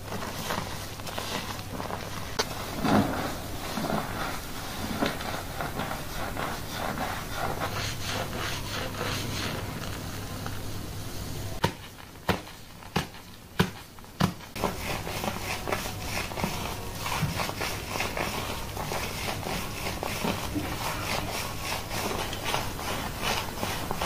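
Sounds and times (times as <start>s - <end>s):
hands scrubbing shampoo lather: 0.0s - 10.7s, 14.5s - 24.0s.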